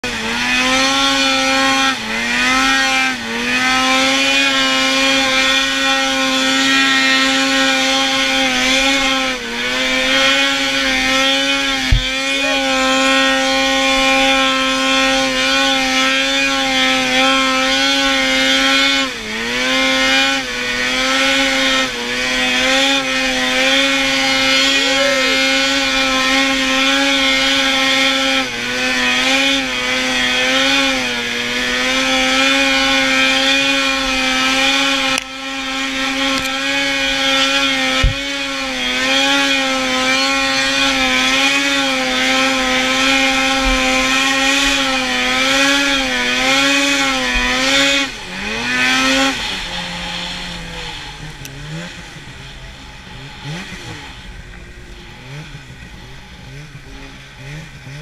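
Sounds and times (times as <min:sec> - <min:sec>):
snowmobile engine at high revs: 0:00.0 - 0:58.0.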